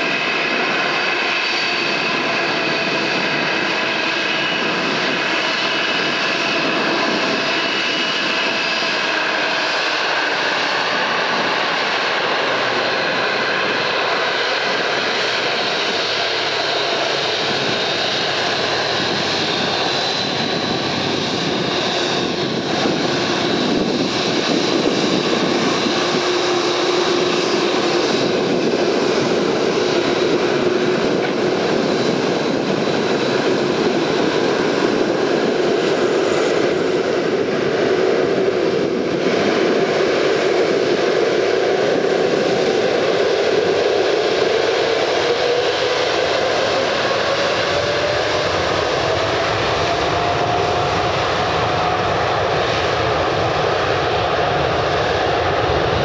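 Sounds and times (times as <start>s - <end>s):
jet engines whining at taxi power: 0.0s - 56.0s.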